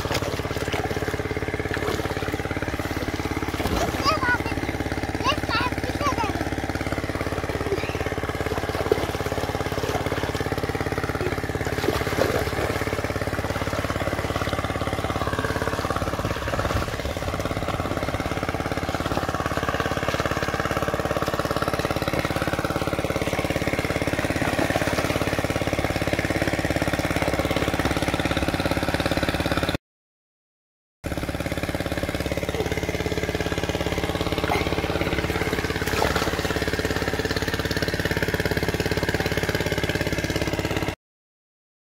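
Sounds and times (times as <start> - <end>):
small engine humming steadily: 0.0 - 29.8, 31.0 - 41.0.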